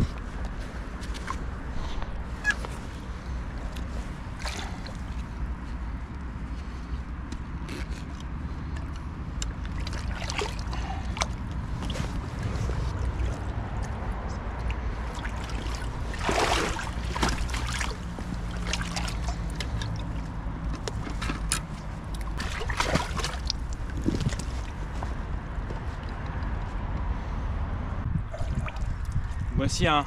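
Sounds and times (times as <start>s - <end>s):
steady low rumble: 0.0s - 30.0s
water sloshing and splashing: 0.1s - 7.0s, 8.0s - 26.2s, 28.2s - 29.5s.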